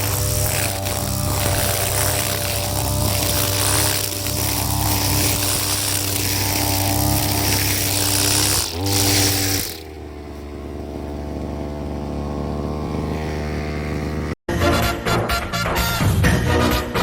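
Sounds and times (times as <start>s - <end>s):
brush cutter engine running: 0.0s - 14.4s.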